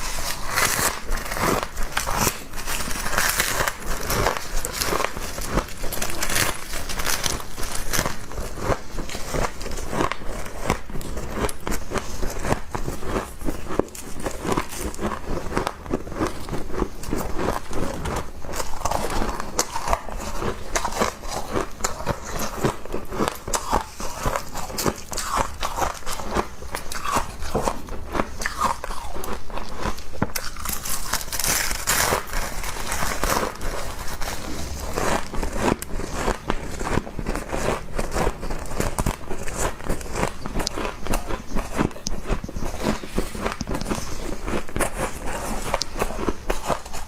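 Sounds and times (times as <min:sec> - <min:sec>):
crunching and chewing ice: 0:00.0 - 0:47.0.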